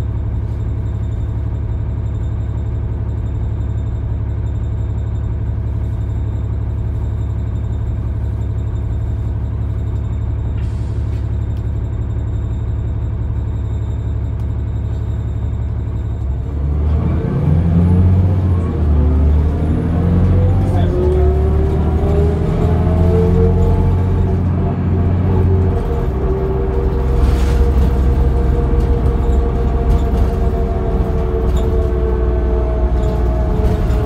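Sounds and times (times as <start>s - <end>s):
bus diesel engine idling and revving: 0.0s - 34.0s.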